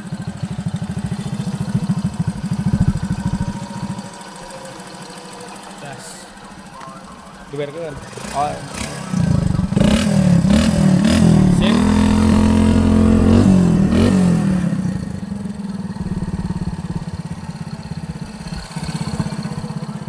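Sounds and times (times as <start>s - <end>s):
motorcycle engine revving and idling: 0.0s - 20.0s.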